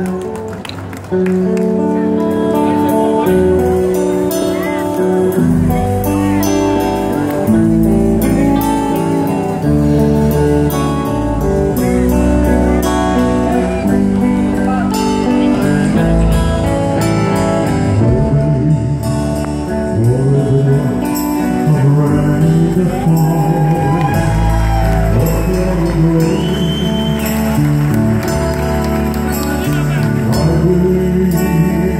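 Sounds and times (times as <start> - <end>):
electric guitars: 0.0 - 31.9.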